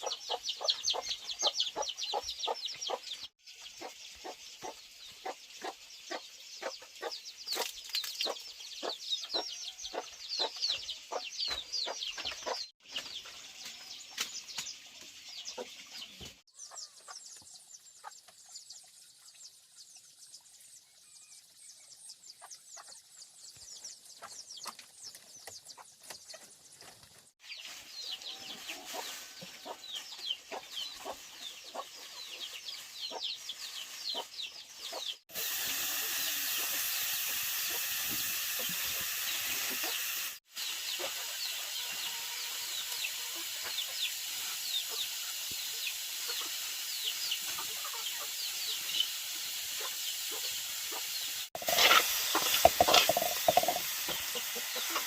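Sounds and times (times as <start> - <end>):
chickens clucking: 0.0 - 17.2, 23.8 - 35.2, 36.0 - 41.9, 42.8 - 55.0.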